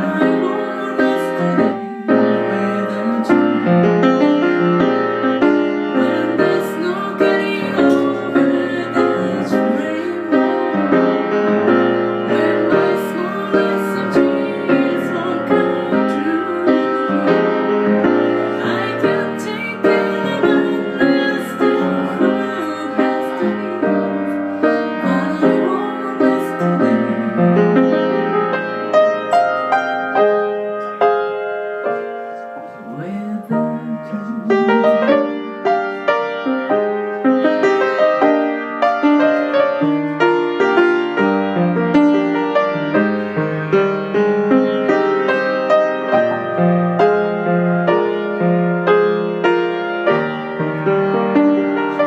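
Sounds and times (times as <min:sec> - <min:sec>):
piano playing: 0:00.0 - 0:52.0.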